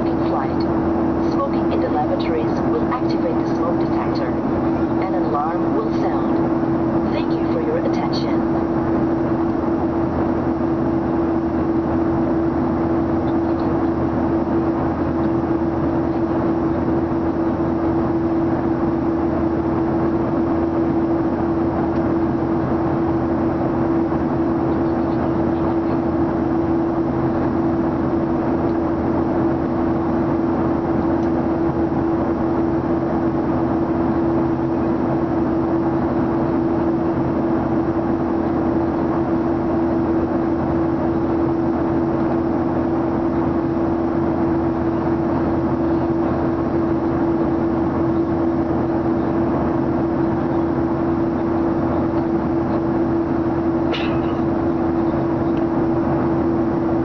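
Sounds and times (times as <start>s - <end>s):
airliner engine and airflow noise: 0.0s - 57.0s
constant hum: 0.0s - 57.0s.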